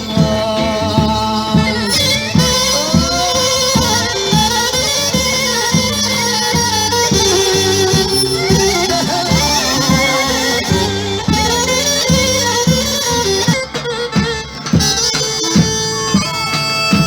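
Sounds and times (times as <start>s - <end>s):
bagpipe folk dance tune: 0.0s - 17.0s
drum beating: 0.0s - 17.0s.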